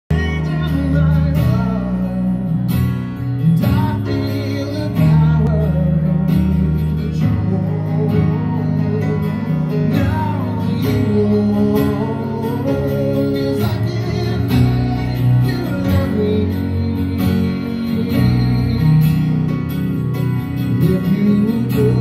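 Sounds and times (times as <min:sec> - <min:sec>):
acoustic guitar strumming: 0:00.1 - 0:22.0.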